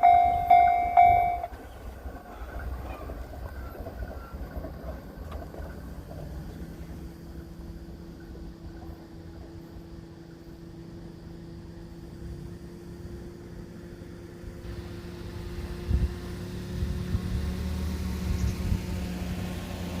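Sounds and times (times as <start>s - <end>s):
vehicle noise: 0.0s - 20.0s.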